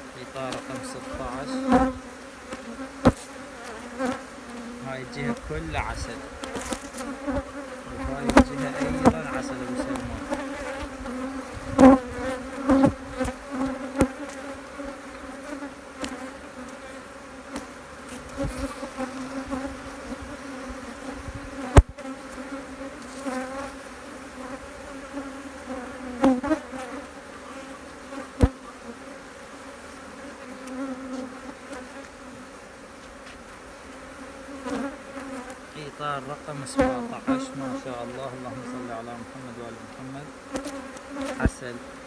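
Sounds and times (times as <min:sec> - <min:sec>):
honeybees buzzing: 0:00.0 - 0:42.0.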